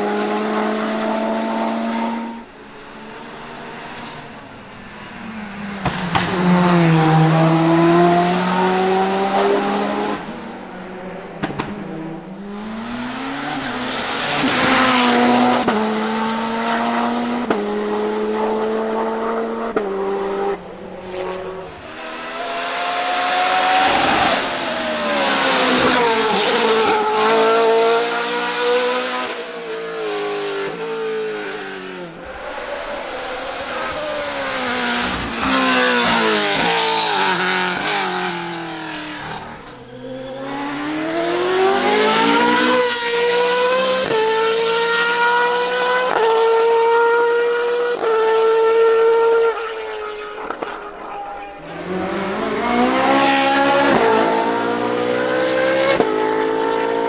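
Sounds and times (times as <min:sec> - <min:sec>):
race car engines at full throttle: 0:00.0 - 0:57.0.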